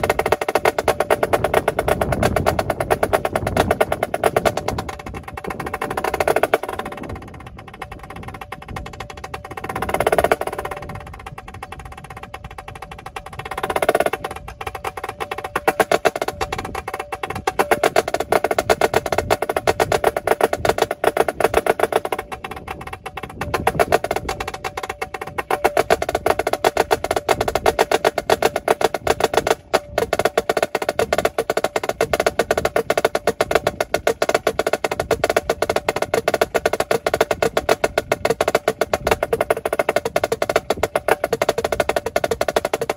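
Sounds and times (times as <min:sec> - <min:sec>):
snare drum rolls: 0:00.0 - 0:42.9.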